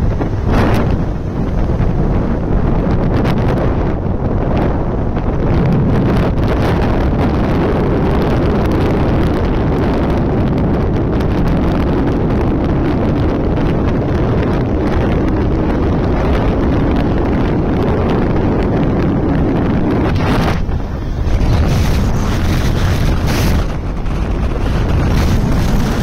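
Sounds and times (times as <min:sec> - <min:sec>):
motorcycle running: 0:00.0 - 0:26.0
road noise: 0:00.0 - 0:26.0
wind buffeting microphone: 0:00.0 - 0:26.0.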